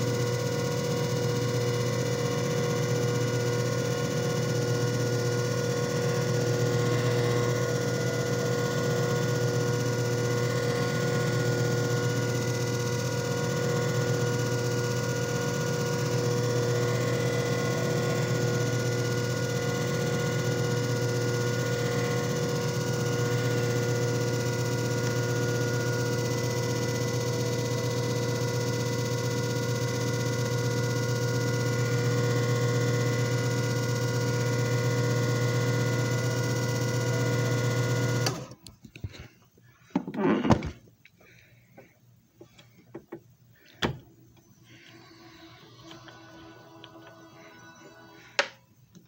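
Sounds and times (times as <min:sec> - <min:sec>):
machine motor humming: 0:00.0 - 0:39.3, 0:41.3 - 0:49.0.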